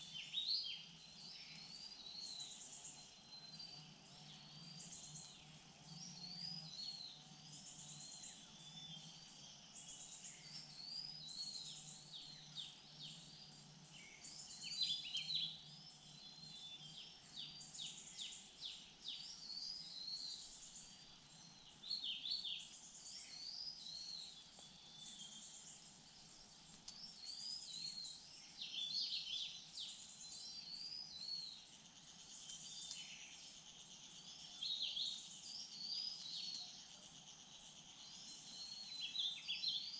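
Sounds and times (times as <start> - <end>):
faint insect drone: 0.0 - 39.9
songbirds chirping: 0.0 - 39.9.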